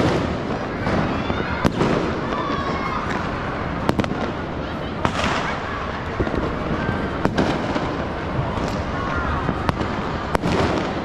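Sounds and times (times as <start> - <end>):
fireworks crackling: 0.0 - 11.0
sharp firecracker bangs: 0.0 - 11.0.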